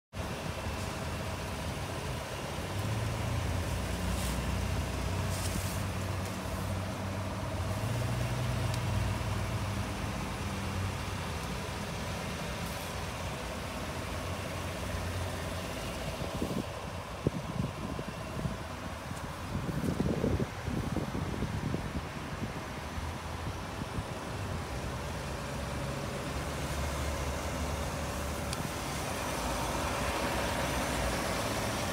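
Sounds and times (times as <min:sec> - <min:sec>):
truck engine idling: 0:00.2 - 0:31.9.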